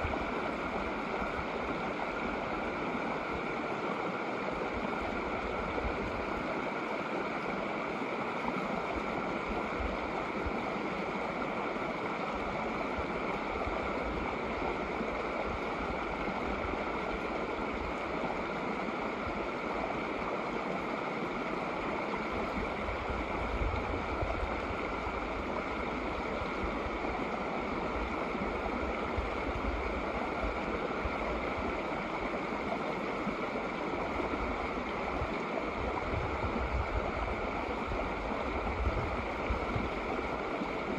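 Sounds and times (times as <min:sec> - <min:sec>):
creek flowing over rocks: 0:00.0 - 0:40.9.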